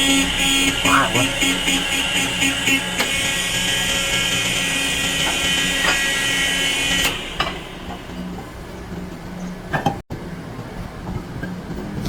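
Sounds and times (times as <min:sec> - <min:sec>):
workshop noise: 0:00.0 - 0:12.0.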